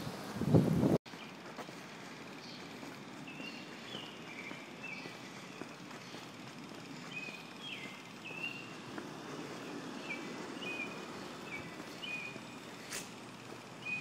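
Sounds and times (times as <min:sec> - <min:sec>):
city street hum: 0:00.0 - 0:14.0
small birds chirping: 0:01.1 - 0:14.0.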